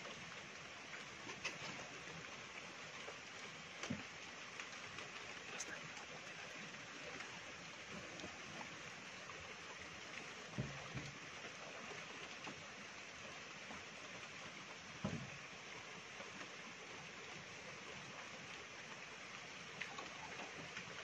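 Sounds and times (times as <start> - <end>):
steady low hiss: 0.0 - 21.0.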